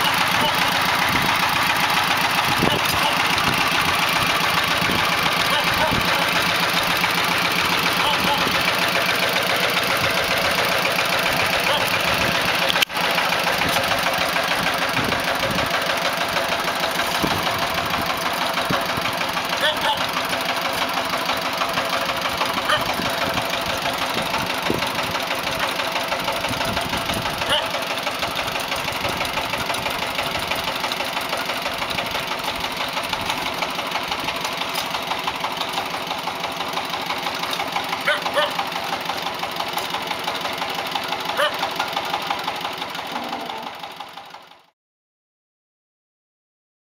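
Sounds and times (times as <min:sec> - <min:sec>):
walking tractor diesel engine knocking: 0:00.0 - 0:44.7.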